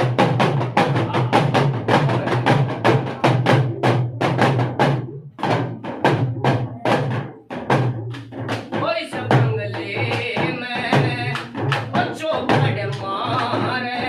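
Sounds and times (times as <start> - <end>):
hourglass drum fast rhythm: 0.0 - 14.0.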